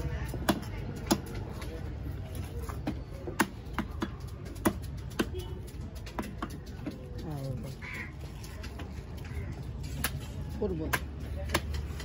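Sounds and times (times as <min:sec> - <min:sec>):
low background murmur: 0:00.0 - 0:12.0.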